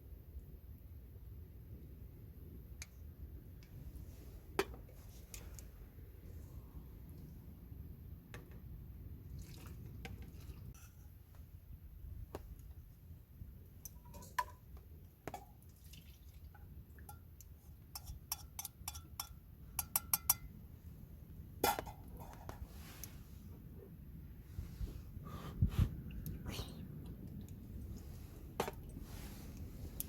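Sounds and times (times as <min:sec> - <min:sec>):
low steady rumble: 0:00.0 - 0:15.7, 0:19.4 - 0:30.0.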